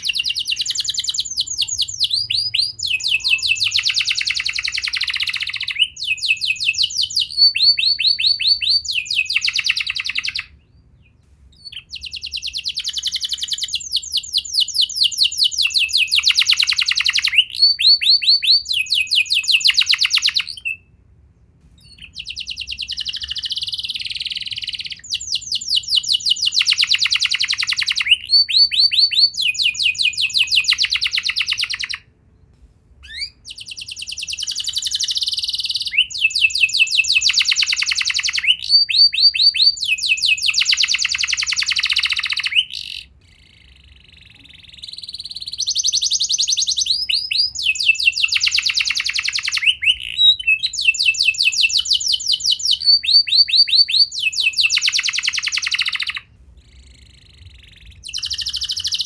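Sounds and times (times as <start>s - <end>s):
canary singing trills: 0.0s - 20.9s, 21.8s - 32.1s, 33.0s - 59.0s.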